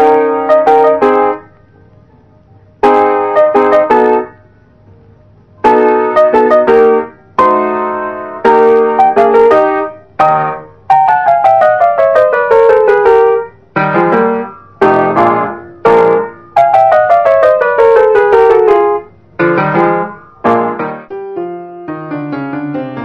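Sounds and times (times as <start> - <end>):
piano music: 0.0 - 1.8, 2.4 - 23.0.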